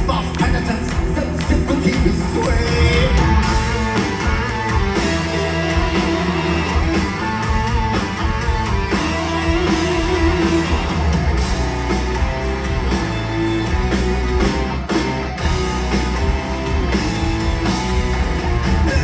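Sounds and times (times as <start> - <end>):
bass guitar: 0.0 - 19.0
drums: 0.0 - 19.0
electric guitars: 0.0 - 19.0.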